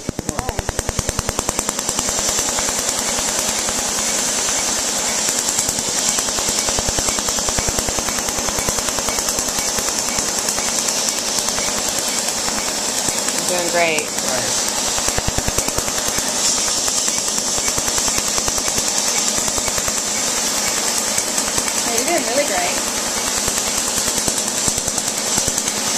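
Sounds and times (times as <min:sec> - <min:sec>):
laser snapping pulses: 0:00.0 - 0:25.9
cooling air hiss: 0:00.2 - 0:25.9.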